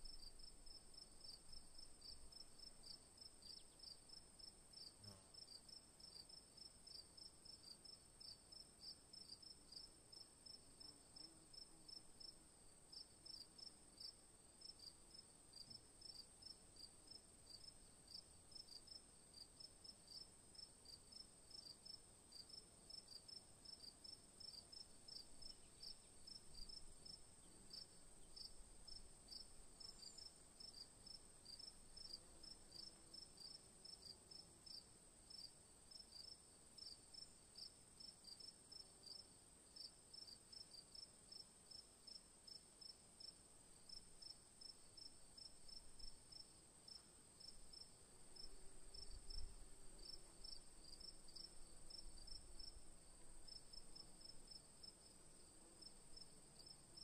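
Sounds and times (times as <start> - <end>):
insect chirping: 0.0 - 57.0.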